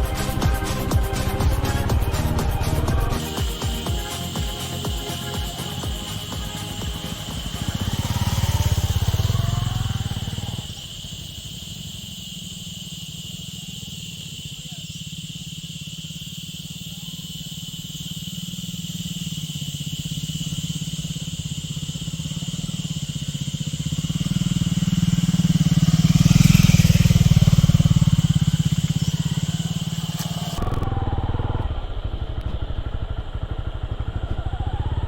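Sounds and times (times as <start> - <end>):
high-pitched drone: 0.0 - 35.0
motorcycle engine running: 0.0 - 35.0.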